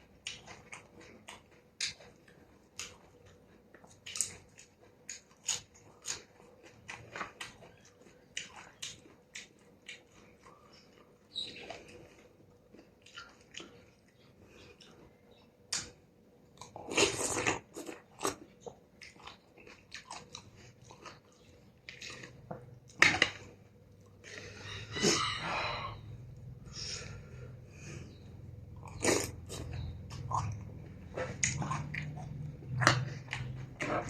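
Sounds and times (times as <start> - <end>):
person chewing and smacking: 0.0 - 24.6, 28.1 - 34.0.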